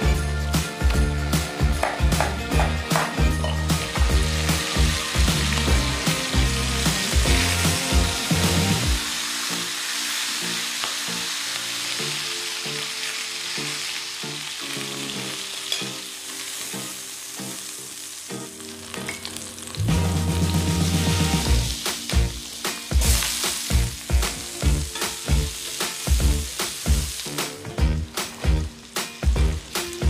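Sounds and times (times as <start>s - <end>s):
chicken sizzling in a skillet: 0.0s - 30.0s
butter sizzling in hot pan: 0.8s - 30.0s.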